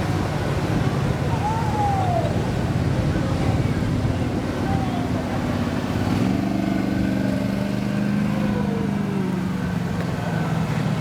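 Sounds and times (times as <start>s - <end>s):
powerboat engine drone: 0.0s - 11.0s.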